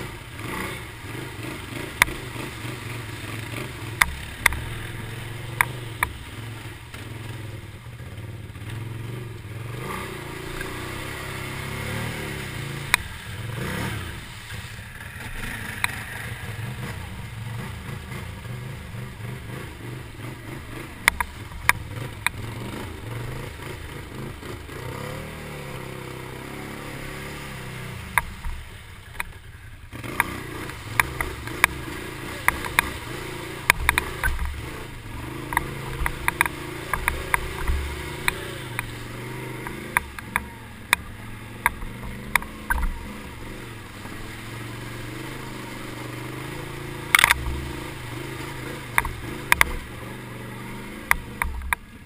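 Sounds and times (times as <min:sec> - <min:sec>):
atv engine revving: 0:00.0 - 0:52.0.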